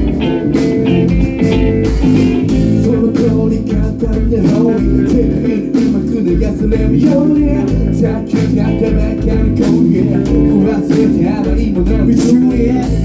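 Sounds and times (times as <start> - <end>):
instrumental band music: 0.0 - 13.0.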